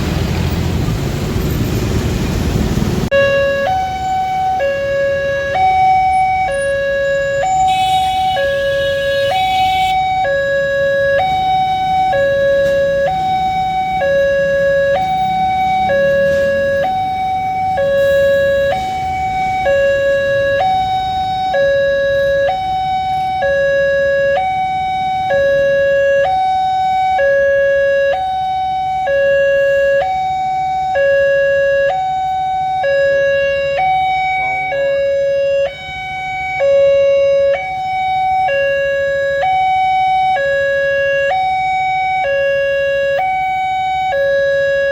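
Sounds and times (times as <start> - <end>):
low traffic rumble: 0.0 - 44.9
level crossing two-tone alarm: 3.1 - 44.9.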